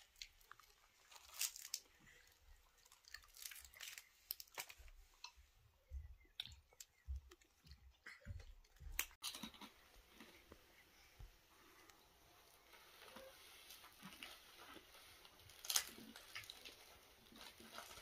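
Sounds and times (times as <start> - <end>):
chewing and crunching fried bread: 0.0 - 10.7, 11.6 - 18.0.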